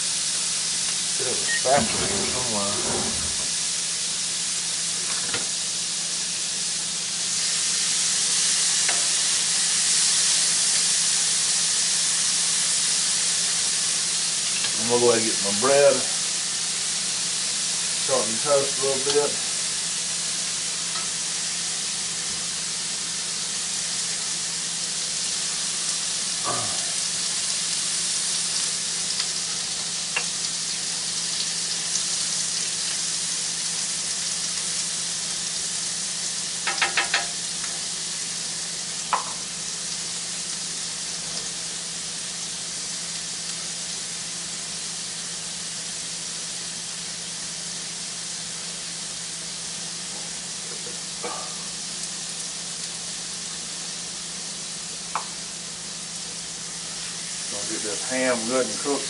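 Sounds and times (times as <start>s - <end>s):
food sizzling on a griddle: 0.0s - 59.0s.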